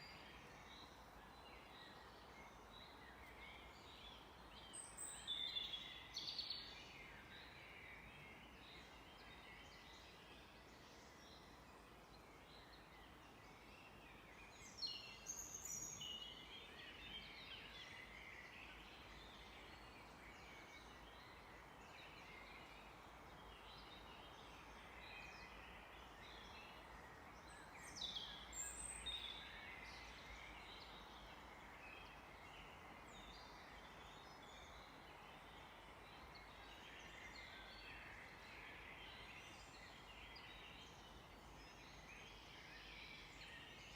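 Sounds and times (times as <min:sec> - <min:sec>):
forest ambience hiss: 0:00.0 - 0:43.9
songbirds singing: 0:00.0 - 0:43.9.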